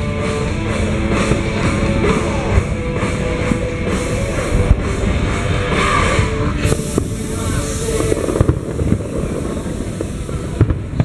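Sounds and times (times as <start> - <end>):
rock music with drums: 0.0 - 11.0.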